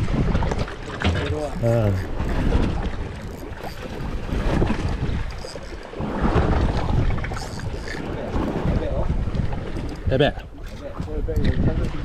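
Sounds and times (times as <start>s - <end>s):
water rushing around hull: 0.0s - 12.0s
wind buffeting microphone: 0.0s - 12.0s.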